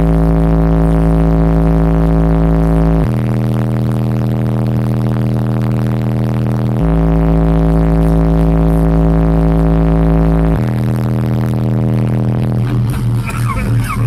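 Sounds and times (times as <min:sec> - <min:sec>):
loud sustained bass notes: 0:00.0 - 0:14.0.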